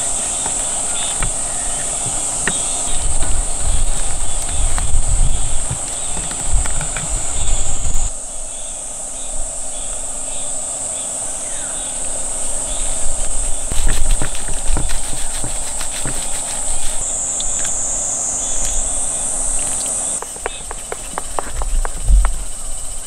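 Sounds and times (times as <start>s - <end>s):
wind rumble on microphone: 0.0s - 10.7s, 11.3s - 23.0s
insects droning: 0.0s - 23.0s.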